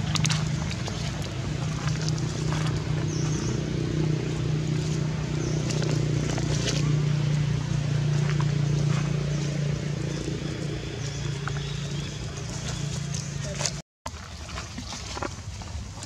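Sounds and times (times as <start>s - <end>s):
low mechanical hum: 0.0s - 13.8s.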